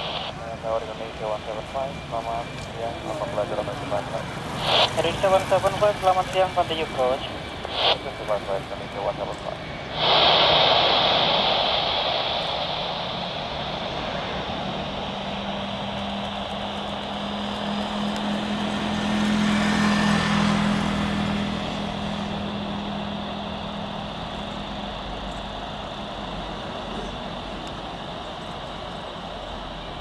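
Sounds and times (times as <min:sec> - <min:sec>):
jet engines rushing: 0:00.0 - 0:30.0
low aircraft hum: 0:00.0 - 0:30.0.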